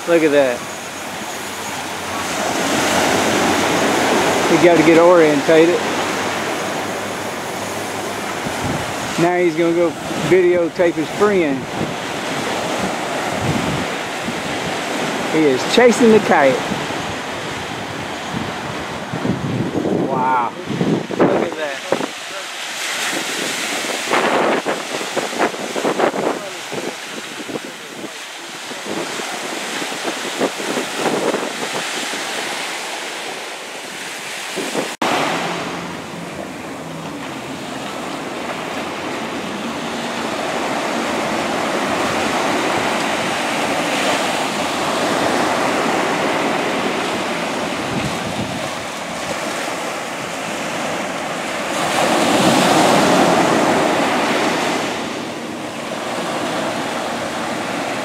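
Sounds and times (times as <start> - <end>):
small waves breaking on beach: 0.0 - 58.0
wind buffeting microphone: 0.0 - 58.0.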